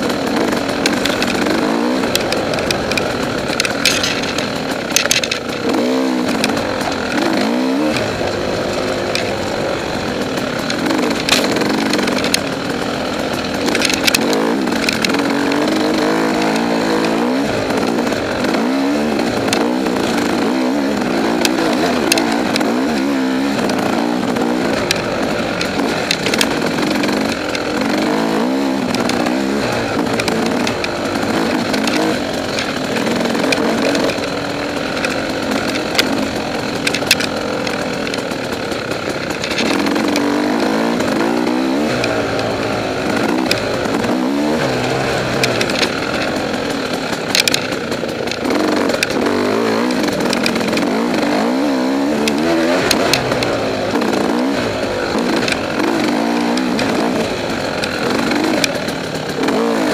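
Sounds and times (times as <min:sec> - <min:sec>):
motorcycle engine revving: 0:00.0 - 0:59.9
sharp clicks: 0:00.0 - 0:59.9.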